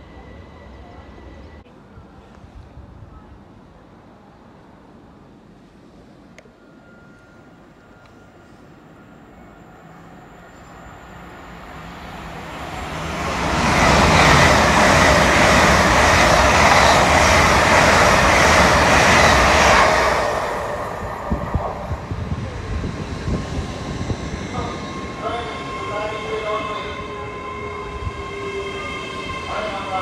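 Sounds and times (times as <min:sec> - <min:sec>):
train rushing past: 0:05.3 - 0:30.0.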